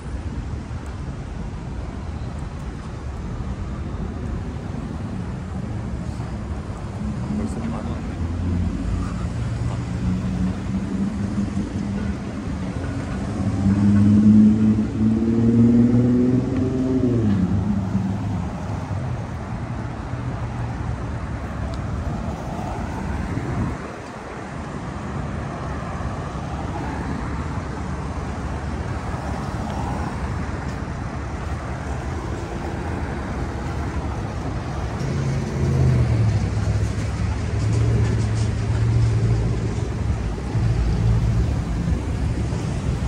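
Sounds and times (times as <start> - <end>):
cars passing: 0.0 - 43.0
vehicle engine hum: 0.0 - 43.0.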